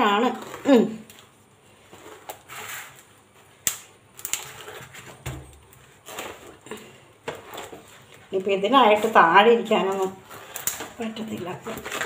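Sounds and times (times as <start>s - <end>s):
knife cutting through fruit rind: 0.0s - 8.1s, 8.8s - 12.0s.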